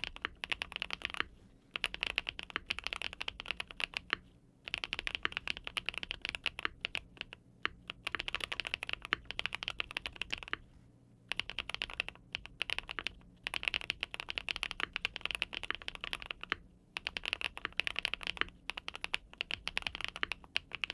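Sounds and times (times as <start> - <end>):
mechanical keyboard typing: 0.0 - 10.7, 11.3 - 20.9.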